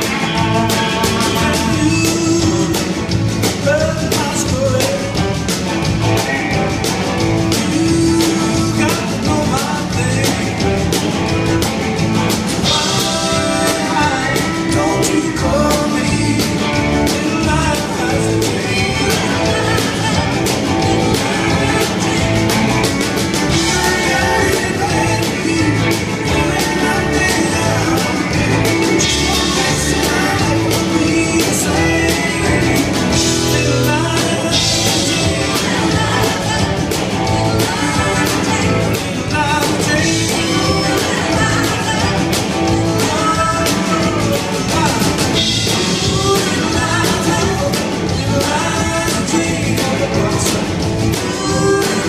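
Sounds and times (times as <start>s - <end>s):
drum kit: 0.0s - 52.0s
electric guitar: 0.0s - 52.0s
man singing: 0.0s - 52.0s.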